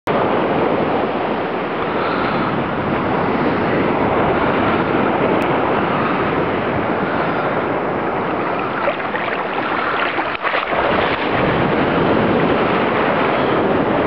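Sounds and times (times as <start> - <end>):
wind buffeting microphone: 0.1 - 14.0
sea water rushing: 0.2 - 14.0
wind rushing: 2.1 - 14.0.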